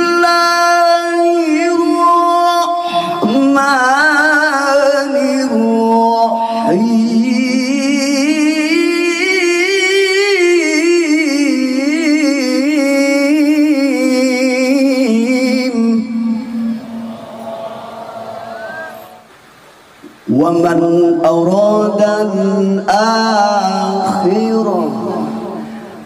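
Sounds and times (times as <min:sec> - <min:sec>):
man reciting melodically: 0:00.0 - 0:19.3, 0:20.0 - 0:26.0.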